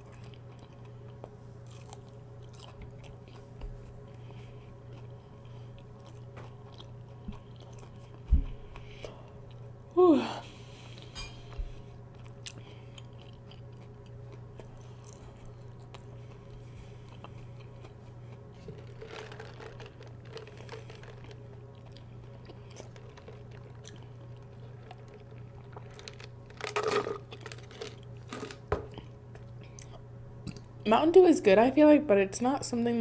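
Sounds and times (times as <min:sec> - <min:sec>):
chewing crunchy food: 0:00.0 - 0:09.8, 0:11.7 - 0:30.7
steady low hum: 0:00.0 - 0:33.0.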